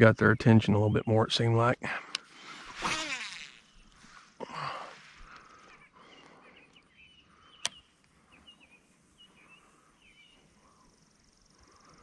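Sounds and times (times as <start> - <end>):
faint bird chirps: 2.4 - 12.0.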